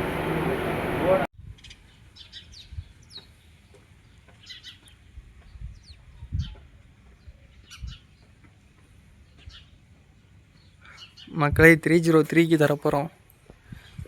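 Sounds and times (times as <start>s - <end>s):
birds chirping: 0.0s - 13.1s.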